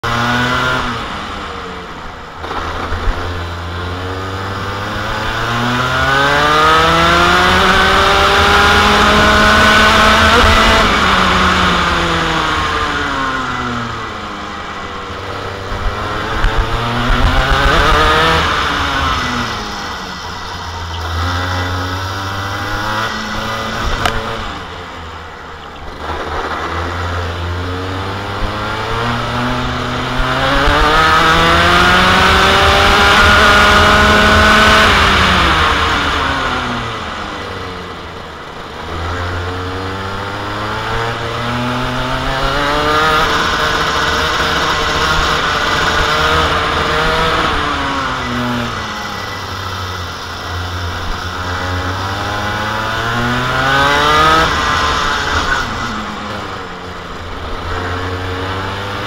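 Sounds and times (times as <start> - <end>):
kart engine revving: 0.0 - 59.0
wind and tyre noise: 0.0 - 59.0.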